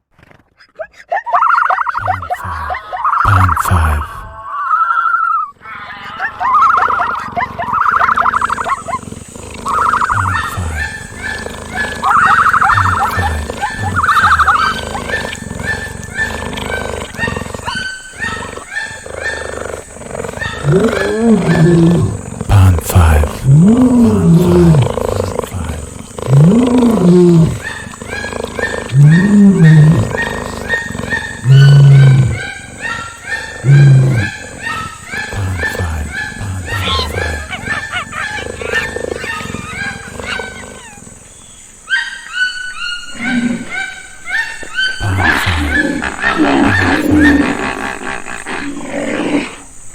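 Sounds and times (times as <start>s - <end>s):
drawn-out animal call: 0.3s - 49.7s.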